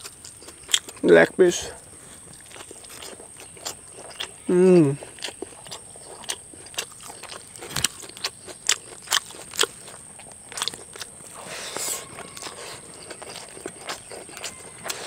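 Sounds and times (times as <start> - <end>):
wet lip smacks and chewing: 0.0 - 1.0, 2.3 - 15.0.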